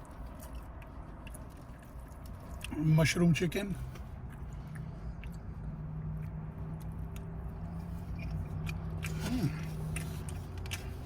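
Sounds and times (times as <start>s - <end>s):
person chewing food: 0.0s - 2.8s, 3.9s - 11.0s.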